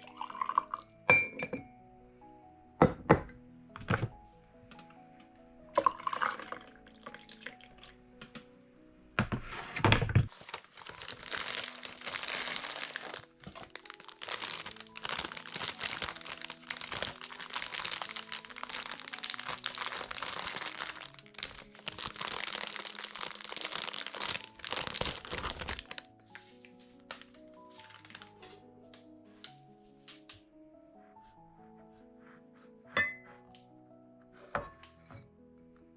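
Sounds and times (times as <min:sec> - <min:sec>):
soft background music: 0:00.0 - 0:35.9.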